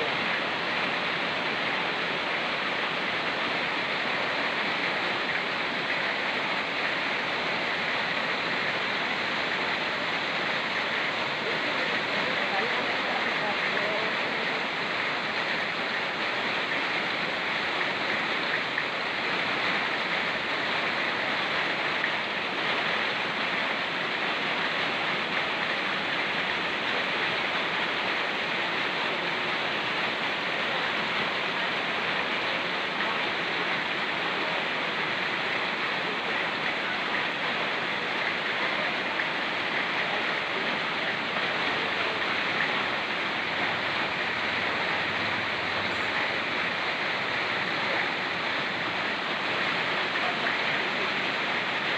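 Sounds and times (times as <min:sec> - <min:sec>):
fast-flowing river: 0:00.0 - 0:51.9
rain falling: 0:00.0 - 0:51.9.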